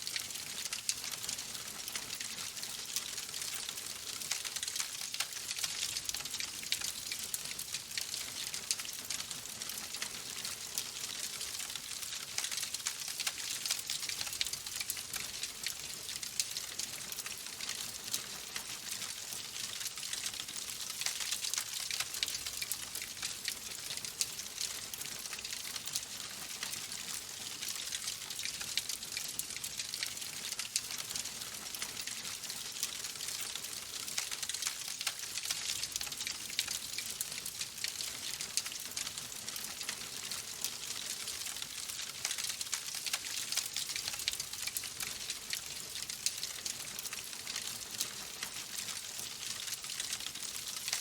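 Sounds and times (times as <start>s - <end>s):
wood fire crackling: 0.0s - 51.0s.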